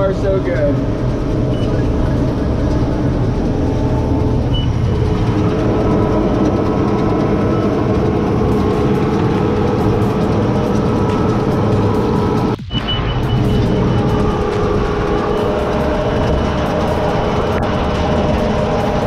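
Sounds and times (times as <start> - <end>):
higher steady hum: 0.0 - 19.0
tractor engine droning: 0.0 - 19.0.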